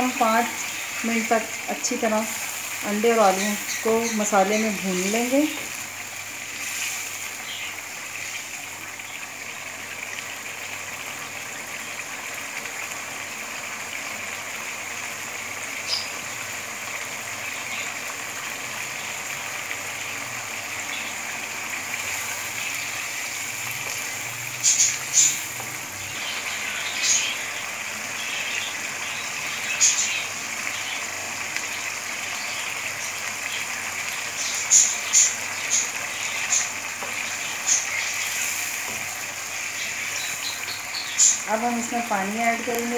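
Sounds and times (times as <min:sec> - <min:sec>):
eggs and potatoes sizzling: 0:00.0 - 0:42.9.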